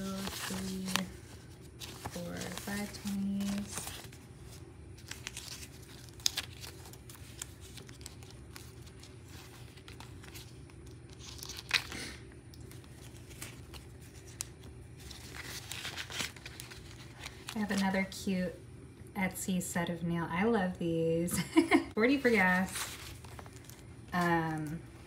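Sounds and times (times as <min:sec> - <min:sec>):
plastic pouch crinkling: 0:00.0 - 0:17.9, 0:22.2 - 0:25.0
paper bills rustling: 0:00.0 - 0:18.0, 0:22.0 - 0:25.0
low steady hum: 0:00.0 - 0:25.0.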